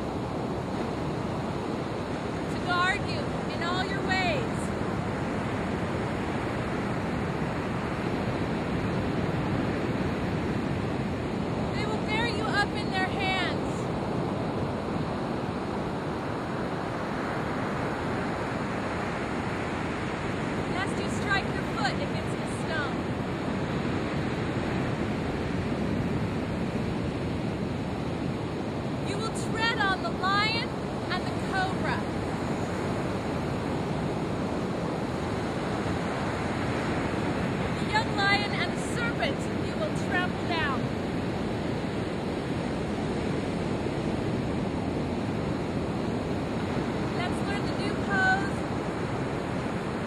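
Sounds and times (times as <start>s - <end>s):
ocean surf breaking on beach: 0.0s - 50.0s
wind noise on microphone: 0.0s - 50.0s.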